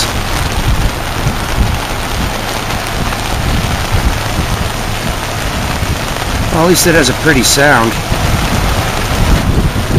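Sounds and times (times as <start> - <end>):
floodwater rushing: 0.0 - 9.9
heavy rain: 0.0 - 9.9.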